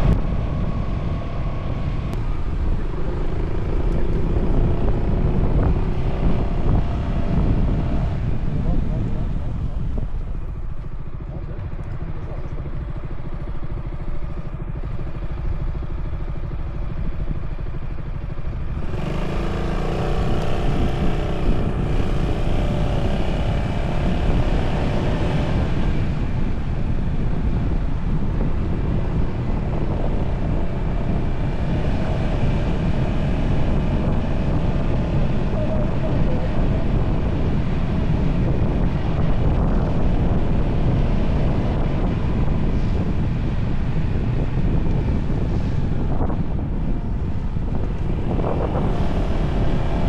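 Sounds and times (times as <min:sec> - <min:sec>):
scooter engine running: 0:00.3 - 0:50.0.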